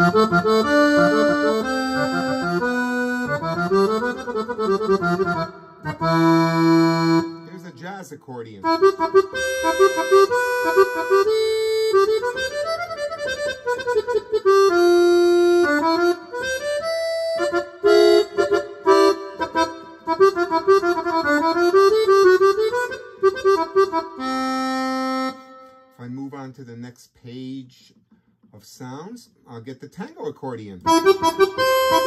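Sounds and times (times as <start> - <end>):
accordion melody on digital piano: 0.0 - 7.9, 8.6 - 26.0, 30.8 - 32.0.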